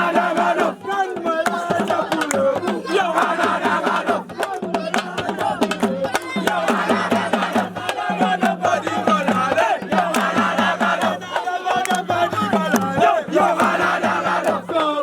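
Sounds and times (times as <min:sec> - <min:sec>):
crowd singing and chanting: 0:00.0 - 0:15.0
fast hand drumming: 0:00.0 - 0:15.0.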